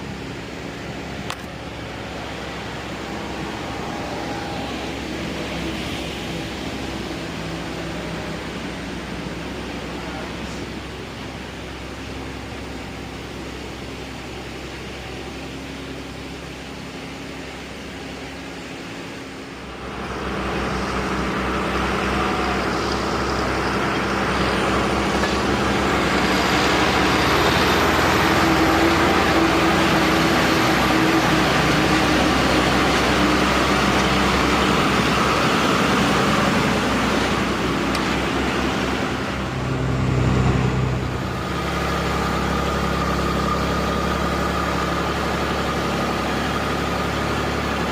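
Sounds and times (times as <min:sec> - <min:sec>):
road noise rushing: 0:00.0 - 0:47.9
truck engine drone: 0:00.0 - 0:47.9.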